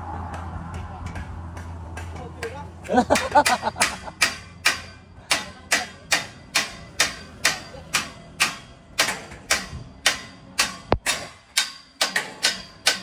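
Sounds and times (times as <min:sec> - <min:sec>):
hammer blows ringing: 0:00.7 - 0:13.0.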